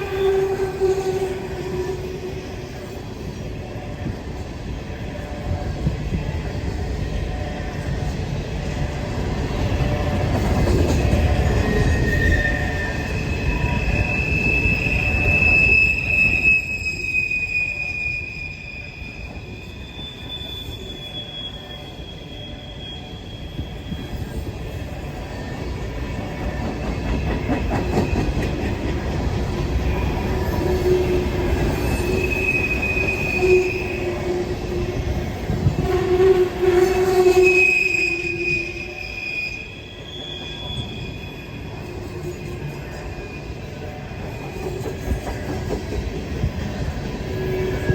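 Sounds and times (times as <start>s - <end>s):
freight train cars rumbling: 0.0s - 47.9s
train wheels squealing on rails: 0.0s - 47.9s.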